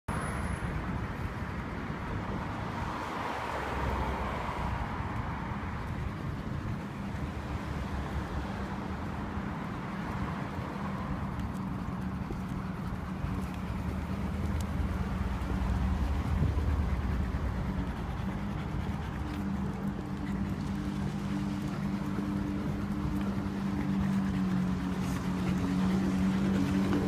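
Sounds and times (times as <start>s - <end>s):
road traffic noise: 0.1s - 27.0s.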